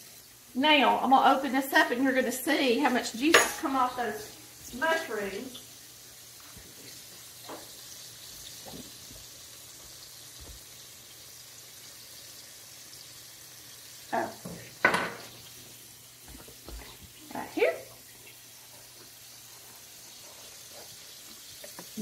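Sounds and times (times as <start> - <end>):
mushrooms sizzling in butter: 0.0 - 22.0.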